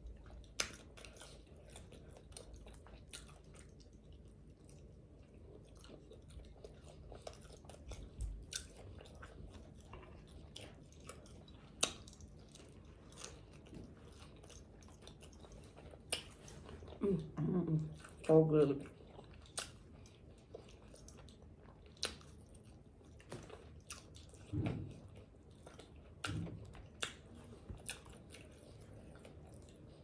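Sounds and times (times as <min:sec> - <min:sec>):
chewing and mouth smacking: 0:00.0 - 0:30.0.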